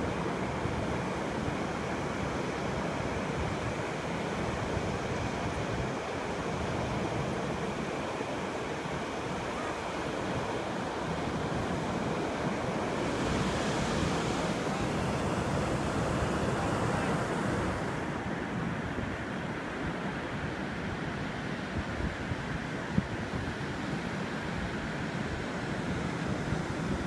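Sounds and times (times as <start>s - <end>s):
ocean surf rushing: 0.0s - 22.6s
wind: 0.0s - 27.0s.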